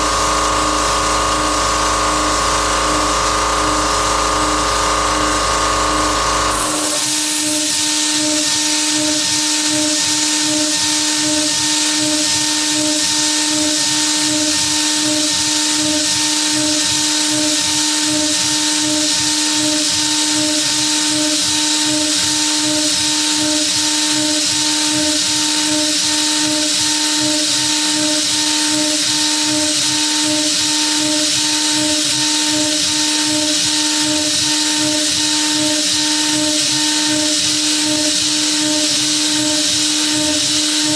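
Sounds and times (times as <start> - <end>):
router spindle whine: 0.0 - 40.9.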